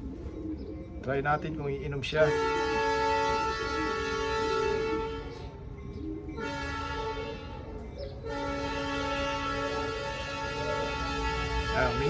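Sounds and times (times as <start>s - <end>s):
background music of sustained chords: 0.0s - 12.0s.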